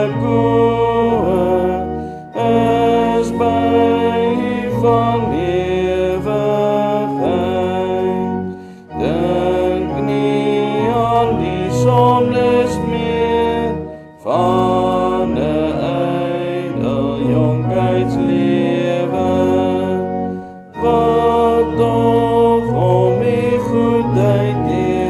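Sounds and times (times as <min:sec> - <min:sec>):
psalm sung slowly: 0:00.0 - 0:25.0
steady musical accompaniment: 0:00.0 - 0:25.0.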